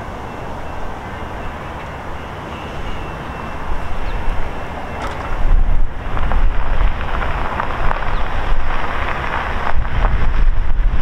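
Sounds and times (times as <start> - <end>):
diesel train rumble: 0.0 - 11.0
wind buffeting microphone: 0.0 - 11.0.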